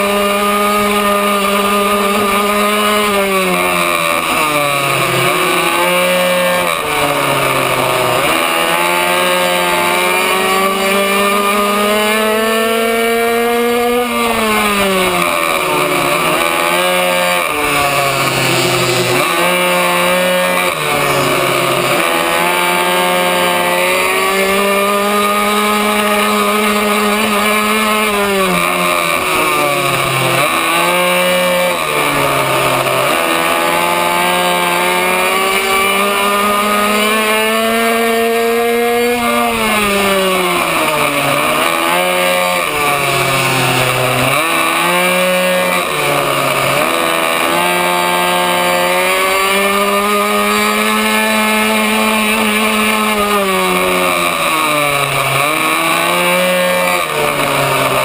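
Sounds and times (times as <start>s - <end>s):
two-stroke engine at full throttle: 0.0s - 58.0s.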